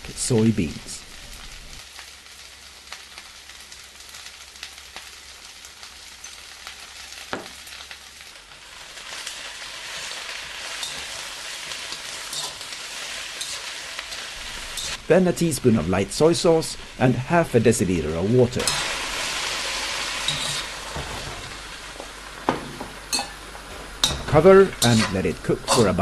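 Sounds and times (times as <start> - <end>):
cabbage sizzling in a wok: 0.0 - 26.0.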